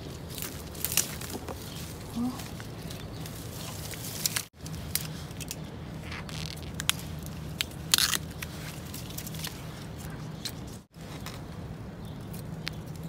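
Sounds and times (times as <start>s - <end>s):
bamboo and twigs crackling and snapping: 0.0s - 13.0s.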